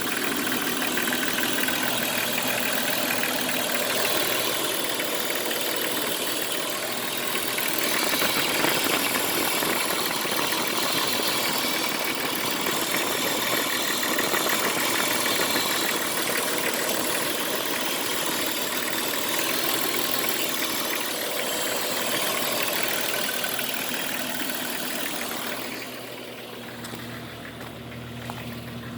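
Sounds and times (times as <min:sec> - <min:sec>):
car engine idling with rattle: 0:00.0 - 0:28.9.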